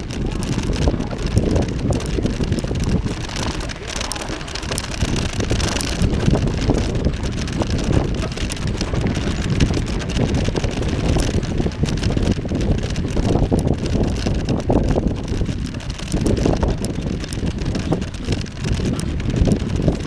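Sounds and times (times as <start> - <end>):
bicycle tyres rolling on path: 0.0 - 20.0
wind buffeting microphone: 0.0 - 20.0.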